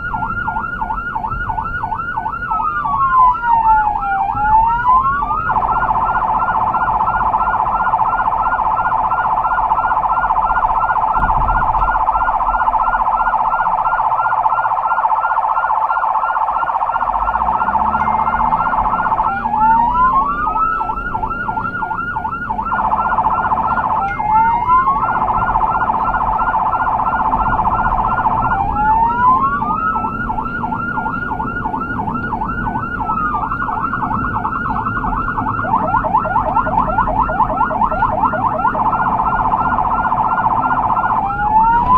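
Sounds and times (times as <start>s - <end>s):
electronic siren yelping: 0.0s - 41.9s
vehicle engine and road rumble: 0.0s - 41.9s.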